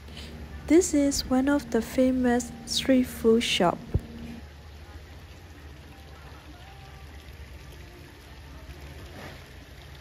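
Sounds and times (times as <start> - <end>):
low hum: 0.0 - 9.1
water splashing and trickling: 0.0 - 10.0.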